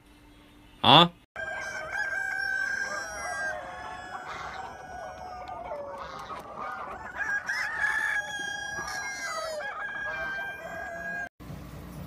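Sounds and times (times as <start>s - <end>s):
hens clucking: 1.4s - 11.3s
roosters crowing: 1.4s - 11.3s.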